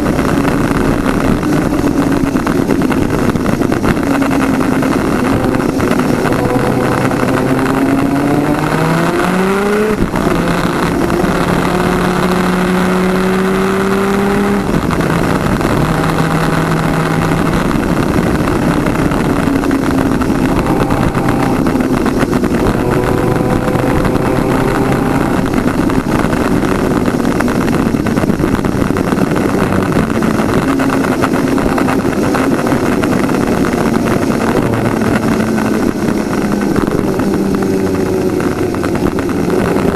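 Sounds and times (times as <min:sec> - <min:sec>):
heavy wind noise: 0:00.0 - 0:39.9
two-stroke kart engine racing: 0:00.0 - 0:39.9.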